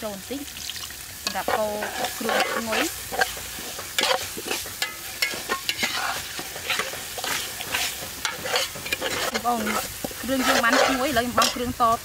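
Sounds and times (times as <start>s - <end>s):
paste sizzling in oil: 0.0s - 12.0s
metal spatula scraping pot: 1.2s - 11.8s.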